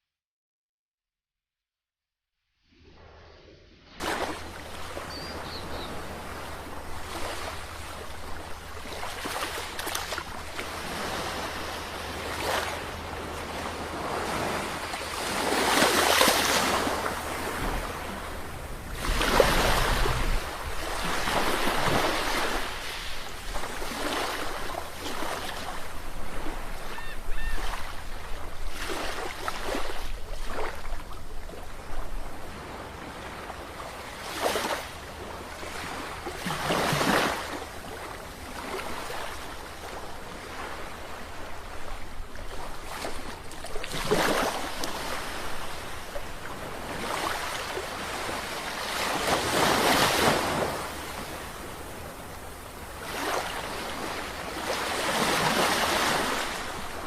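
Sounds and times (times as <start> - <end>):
sea waves breaking ashore: 2.8 - 57.0.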